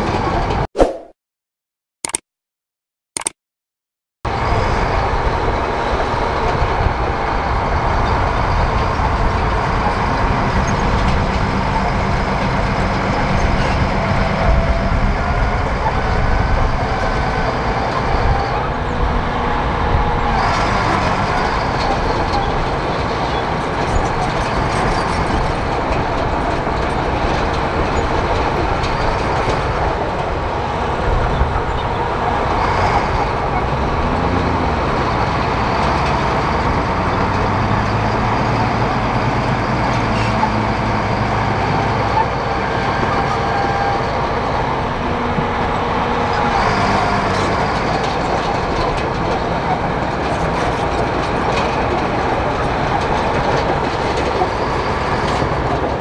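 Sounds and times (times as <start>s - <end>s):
bulldozer diesel engine running: 4.3s - 56.0s.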